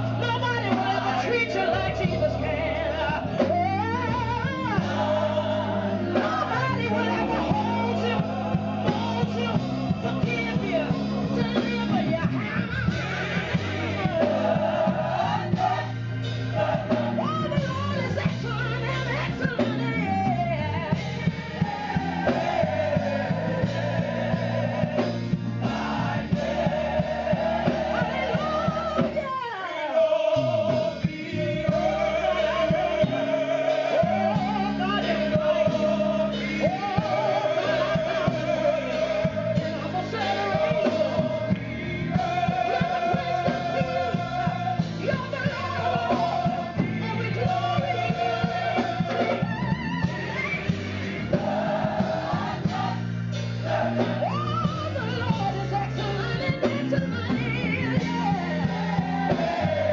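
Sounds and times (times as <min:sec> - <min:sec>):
woman singing lead vocal: 0:00.0 - 0:22.4, 0:27.6 - 0:53.0, 0:53.8 - 0:59.9
drums: 0:00.0 - 0:59.9
gospel choir singing: 0:00.0 - 0:59.9
keyboard: 0:00.0 - 0:59.9.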